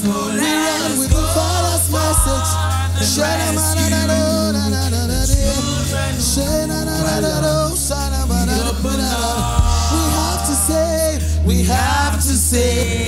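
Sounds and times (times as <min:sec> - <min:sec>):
low bass notes: 0:00.0 - 0:13.0
voices singing: 0:00.0 - 0:13.0.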